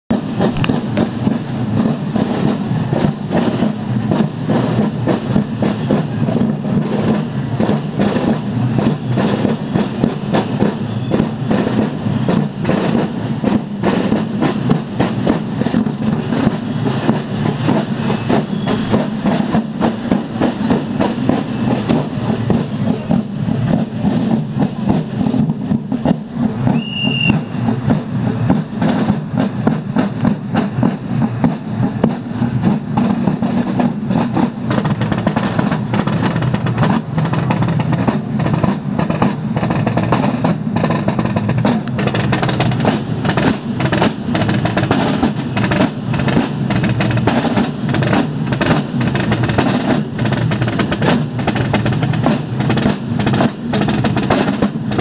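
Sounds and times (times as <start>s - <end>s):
marching field drums: 0.1s - 55.0s.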